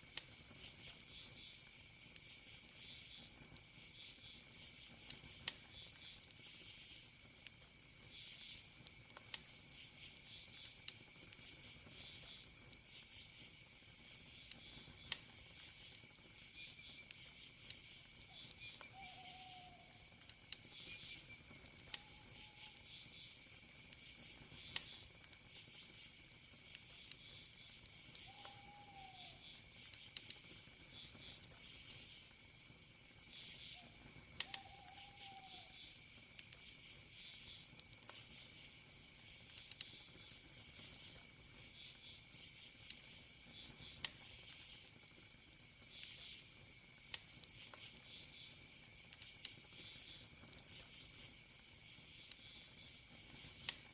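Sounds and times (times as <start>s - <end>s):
campfire crackling and popping: 0.0s - 53.9s
cricket trill: 0.0s - 53.9s
insect chirping: 0.0s - 53.9s.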